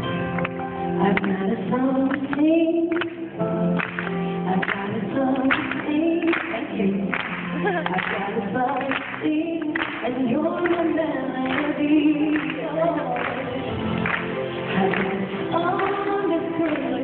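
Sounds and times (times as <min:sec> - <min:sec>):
instrumental backing music: 0:00.0 - 0:17.0
woman singing into microphone: 0:00.9 - 0:03.5, 0:04.4 - 0:17.0.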